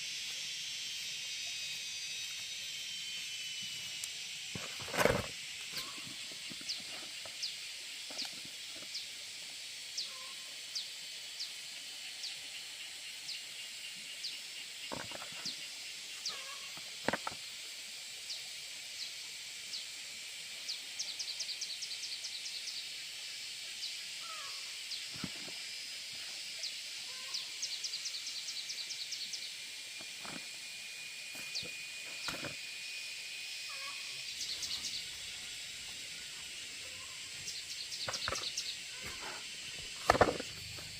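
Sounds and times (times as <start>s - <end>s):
steady high hiss: 0.0s - 40.9s.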